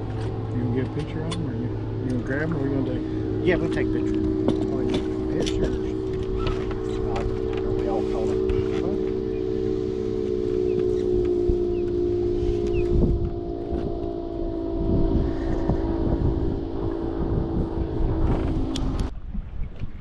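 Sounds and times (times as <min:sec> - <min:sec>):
boat motor humming: 0:00.0 - 0:19.1
wind buffeting microphone: 0:00.0 - 0:20.0.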